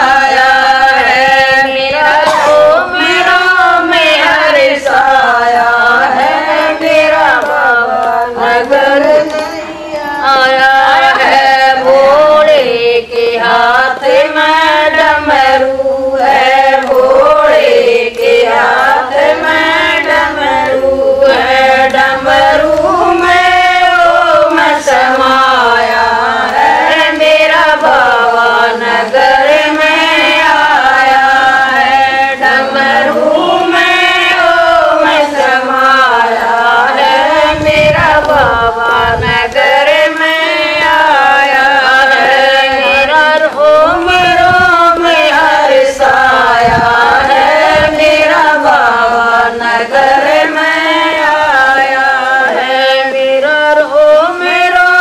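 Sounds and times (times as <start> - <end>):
women singing in unison: 0.0 - 55.0.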